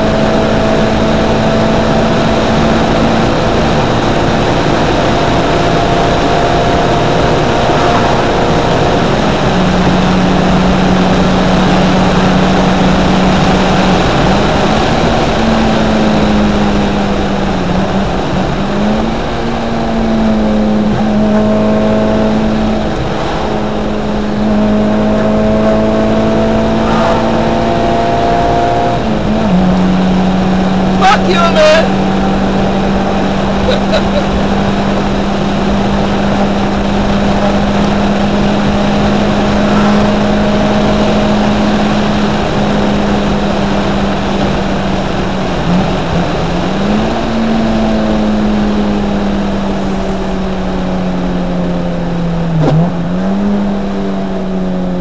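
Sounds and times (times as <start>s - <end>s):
car engine droning: 0.0s - 55.0s
road noise: 0.0s - 55.0s
wind noise: 0.0s - 55.0s.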